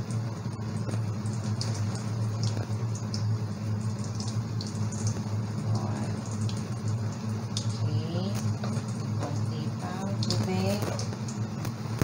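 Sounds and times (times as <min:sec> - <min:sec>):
low hum: 0:00.0 - 0:12.0
water pouring into steel sink: 0:00.0 - 0:12.0.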